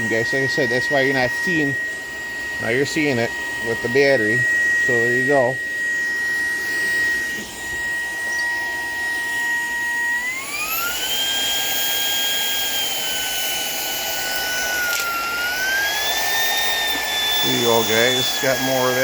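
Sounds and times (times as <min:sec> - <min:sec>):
stick vacuum motor whine: 0:00.0 - 0:19.0.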